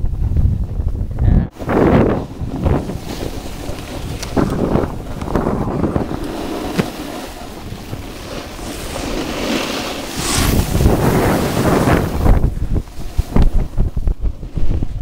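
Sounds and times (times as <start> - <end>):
wind buffeting microphone: 0.0 - 15.0
edges scraping through snow: 1.6 - 14.9.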